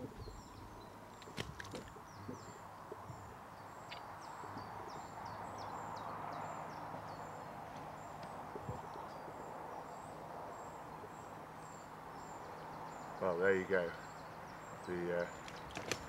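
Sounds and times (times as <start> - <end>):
bird chirping: 0.0 - 16.0
outdoor background noise: 0.0 - 16.0.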